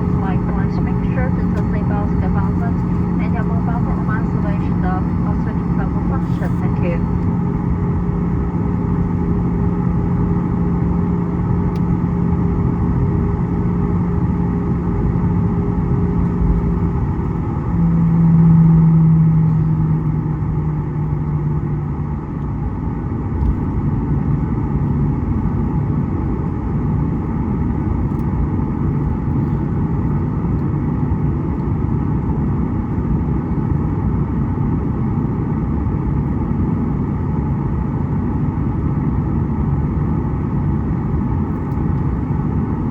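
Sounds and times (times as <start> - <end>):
aircraft cabin engine rumble: 0.0 - 42.9
low hum: 0.0 - 42.9.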